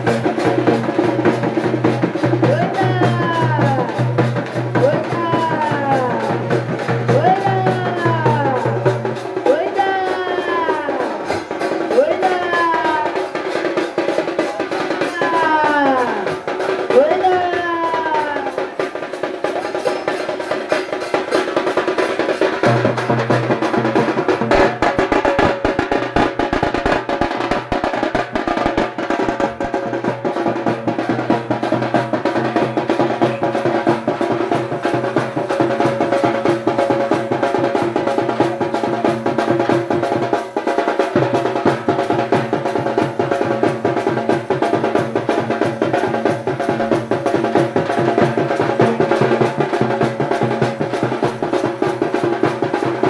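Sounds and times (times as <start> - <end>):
fast drumming with sticks: 0.0 - 53.0.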